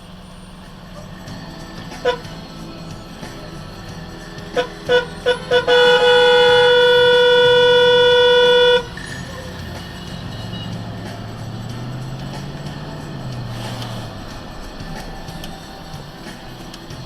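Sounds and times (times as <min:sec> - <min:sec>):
low traffic rumble: 0:00.0 - 0:17.0
vehicle horn honking: 0:01.8 - 0:16.9.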